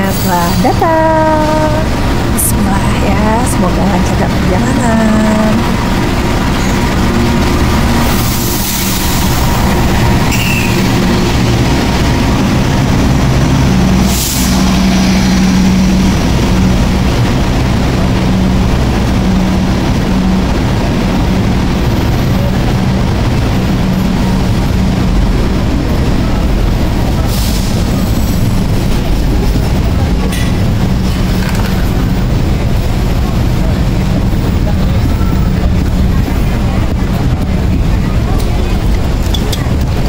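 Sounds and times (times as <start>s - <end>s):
diesel locomotive engine droning: 0.0s - 40.0s.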